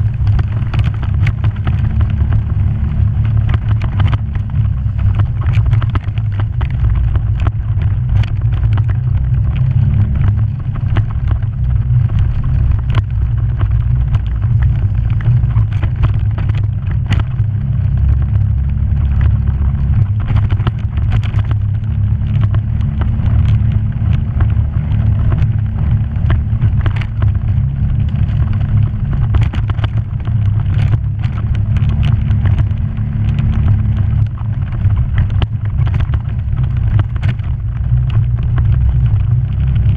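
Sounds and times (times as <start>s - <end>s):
knocks and rattles: 0.0s - 39.9s
vehicle engine running: 0.0s - 39.9s.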